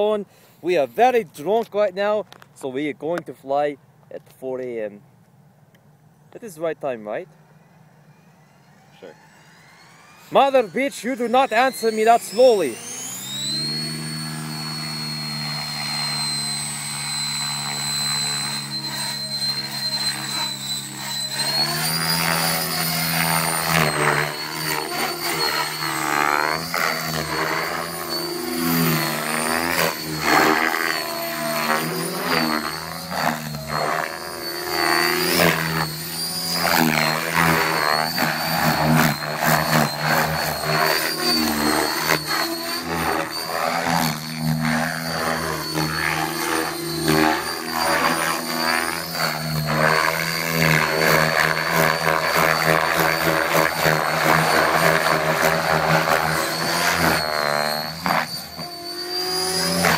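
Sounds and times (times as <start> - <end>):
model helicopter motor and rotor: 5.7 - 59.9.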